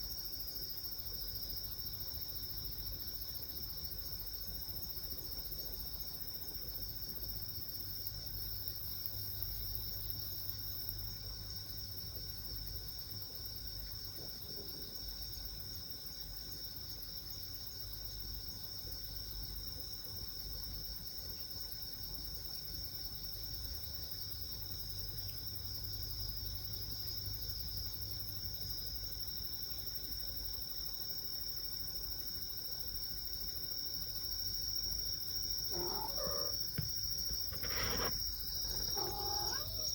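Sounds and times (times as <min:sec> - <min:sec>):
night insects trilling: 0:00.1 - 0:39.9.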